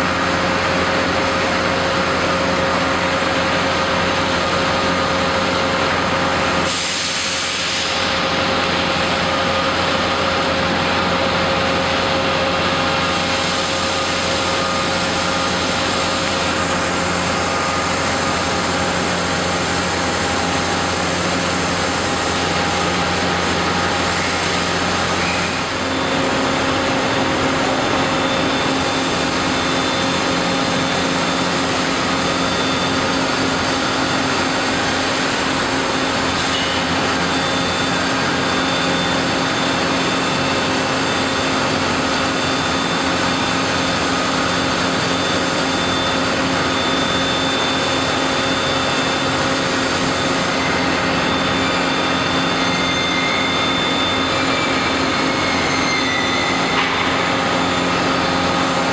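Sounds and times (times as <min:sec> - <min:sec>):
heavy industrial machinery running: 0:00.0 - 0:58.9.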